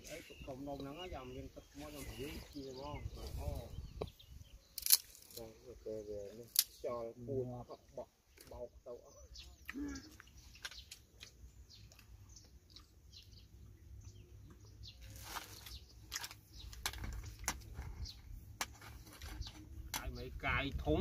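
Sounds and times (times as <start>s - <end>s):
faint bird chirps: 0.0s - 18.4s.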